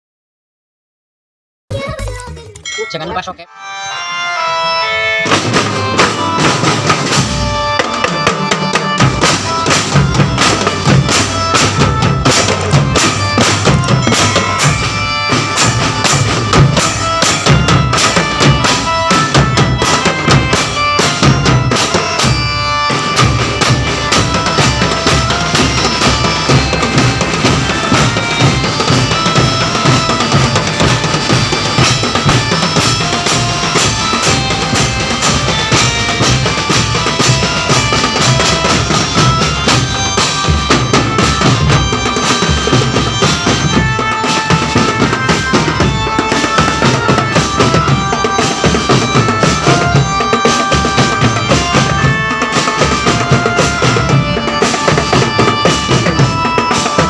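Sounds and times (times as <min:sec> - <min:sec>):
sustained melody line: 0:02.6 - 0:57.0
music with driving drum beat: 0:05.2 - 0:57.0.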